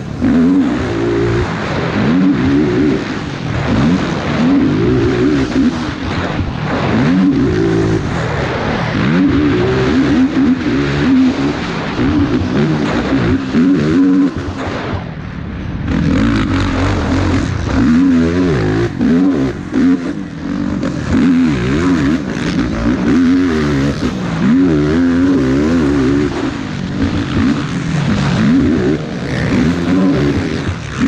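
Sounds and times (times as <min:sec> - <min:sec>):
quad engine revving: 0:00.0 - 0:31.0.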